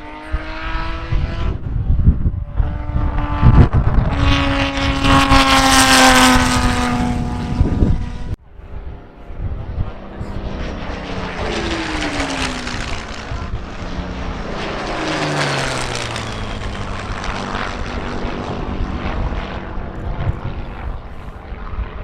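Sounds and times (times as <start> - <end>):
propeller aircraft flying past: 0.0 - 22.0.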